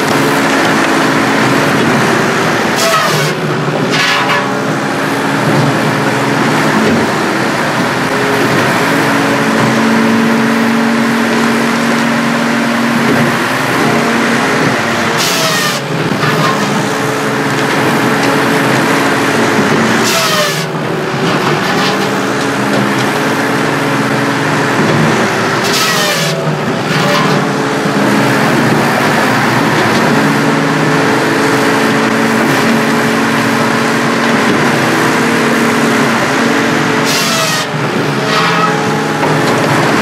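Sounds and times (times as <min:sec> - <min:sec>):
circular saw cutting log: 0:00.0 - 0:40.0
firewood processor drone: 0:00.0 - 0:40.0.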